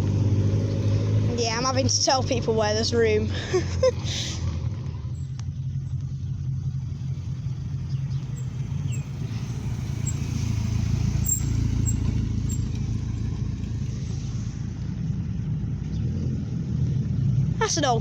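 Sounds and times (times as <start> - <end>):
car engine running low: 0.0 - 18.0.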